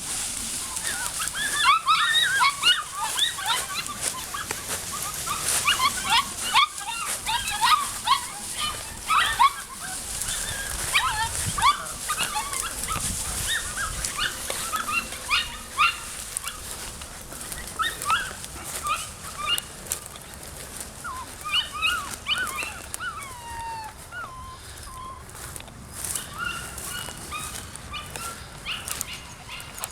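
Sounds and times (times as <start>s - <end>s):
puppies yipping and whimpering: 0.0s - 29.9s.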